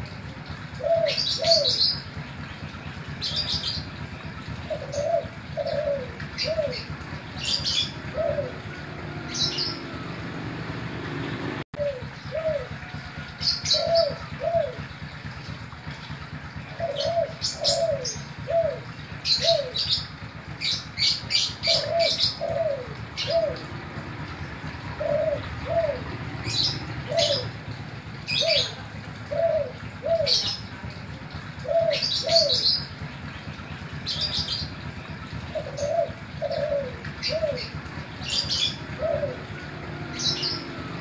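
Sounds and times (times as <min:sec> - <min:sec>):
dove cooing: 0:00.2 - 0:02.2, 0:03.1 - 0:15.4, 0:16.1 - 0:41.0.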